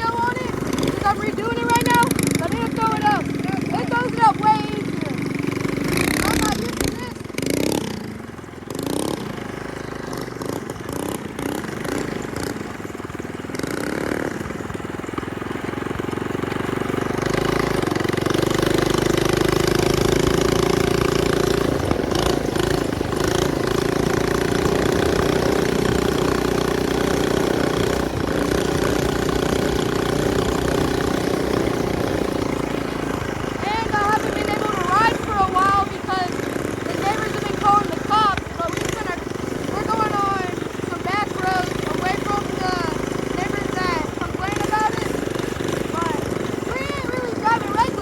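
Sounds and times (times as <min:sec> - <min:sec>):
minibike engine running: 0:00.0 - 0:48.0.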